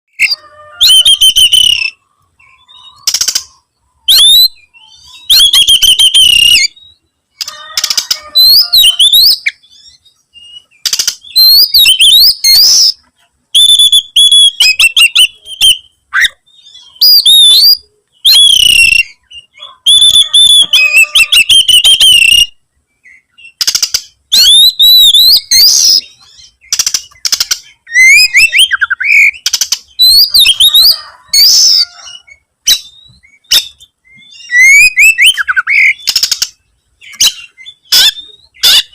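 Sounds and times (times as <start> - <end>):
magpie-robin singing: 0.1 - 38.9.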